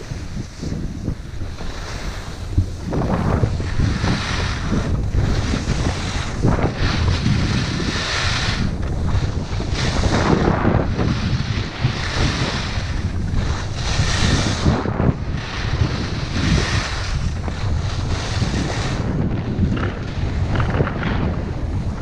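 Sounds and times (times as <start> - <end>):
skis scraping over snow: 0.0 - 22.0
wind rushing over microphone: 0.0 - 22.0.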